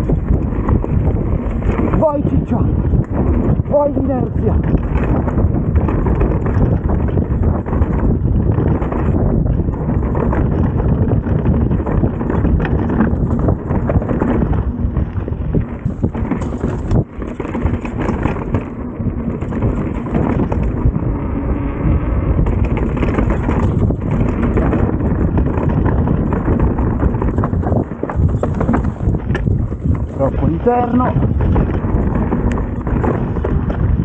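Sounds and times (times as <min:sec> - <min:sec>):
bike rattling over rocks: 0:00.0 - 0:34.0
bike tyres rumbling on trail: 0:00.0 - 0:34.0
wind buffeting microphone: 0:00.0 - 0:34.0.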